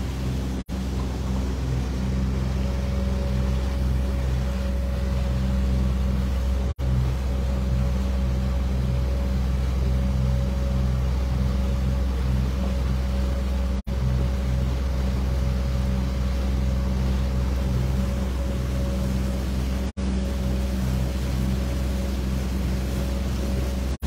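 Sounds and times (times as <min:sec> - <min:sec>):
boat wake rushing: 0:00.0 - 0:24.0
outboard motor running: 0:00.0 - 0:24.0.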